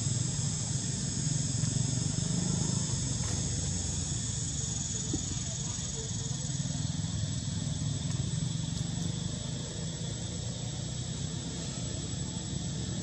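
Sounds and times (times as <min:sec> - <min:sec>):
motor running low rumble: 0:00.0 - 0:13.0.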